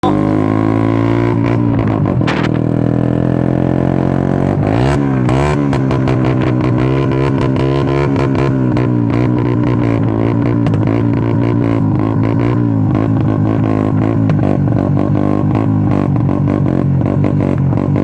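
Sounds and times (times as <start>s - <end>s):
exhaust crackles: 0.0s - 18.0s
motorcycle engine revving: 0.0s - 18.0s.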